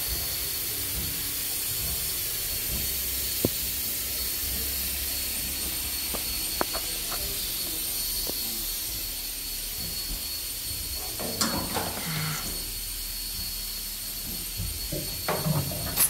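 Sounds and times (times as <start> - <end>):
running machinery hiss and whine: 0.0 - 16.0.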